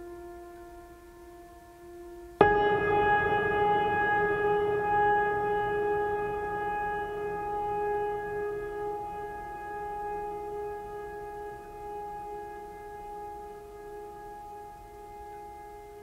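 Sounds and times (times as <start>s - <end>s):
singing bowl-like ringing drone: 0.0s - 16.0s.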